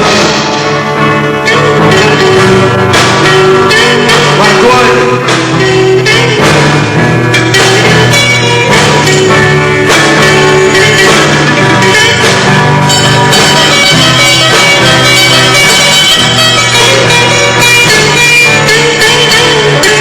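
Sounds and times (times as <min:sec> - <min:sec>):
drum hits: 0:00.0 - 0:20.0
rock band playing live: 0:00.0 - 0:20.0.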